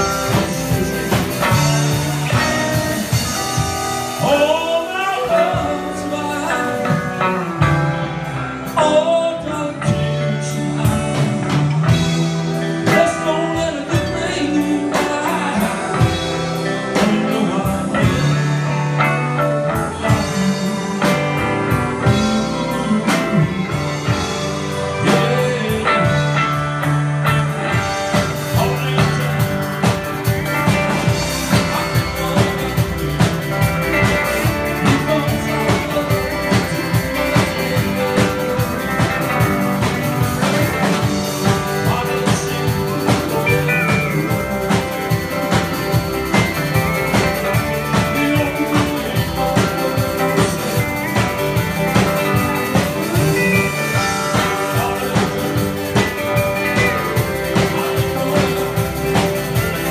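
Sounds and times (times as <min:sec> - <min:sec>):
drum kit beat: 0:00.0 - 0:59.9
electric guitars: 0:00.0 - 0:59.9
upright bass: 0:00.0 - 0:59.9.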